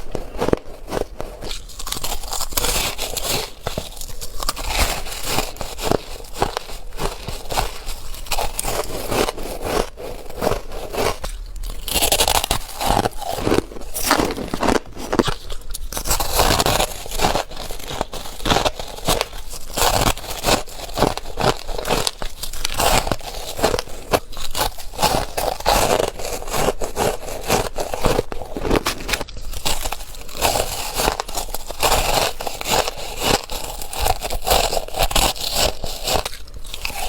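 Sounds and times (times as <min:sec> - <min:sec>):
ice being chewed: 0:00.0 - 0:37.0.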